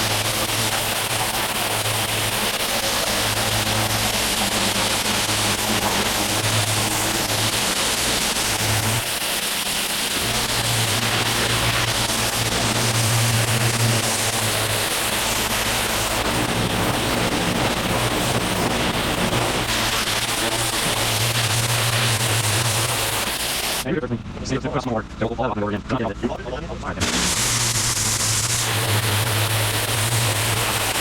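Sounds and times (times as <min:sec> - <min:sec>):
water spraying onto pavers: 0:00.0 - 0:23.8, 0:27.0 - 0:31.0
pressure washer engine hum: 0:00.0 - 0:31.0.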